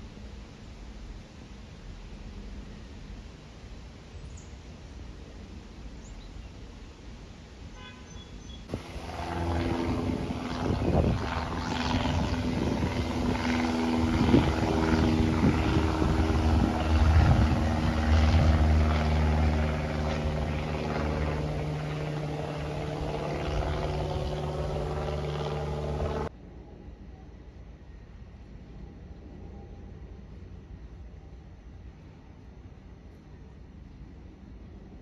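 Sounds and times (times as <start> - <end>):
light aircraft engine droning overhead: 0.0 - 35.0.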